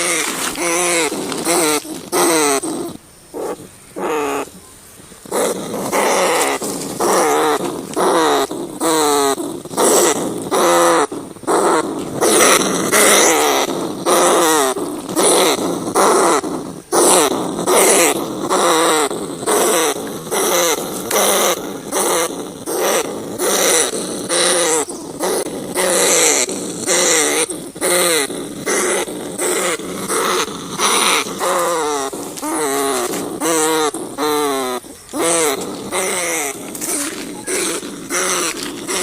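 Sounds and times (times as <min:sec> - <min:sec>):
rats squealing: 0:00.0 - 0:04.6, 0:05.2 - 0:39.0.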